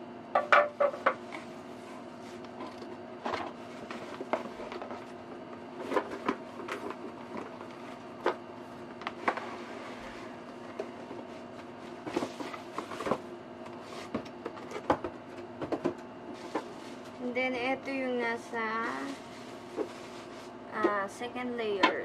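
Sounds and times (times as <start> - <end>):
steady low hum: 0.0 - 22.0
cardboard and plastic rustling: 1.2 - 17.3, 18.6 - 20.6.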